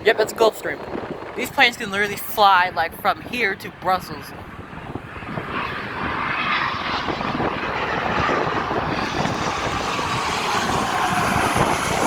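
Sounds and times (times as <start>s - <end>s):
jet engines rushing with whine: 0.0s - 12.0s.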